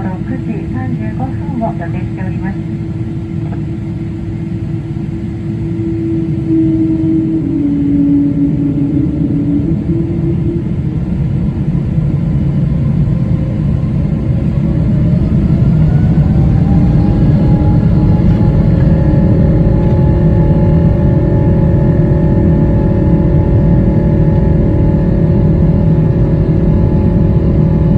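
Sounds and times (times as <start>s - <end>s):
jet engine whine rising: 0.0s - 27.9s
jet engines roaring: 0.0s - 27.9s.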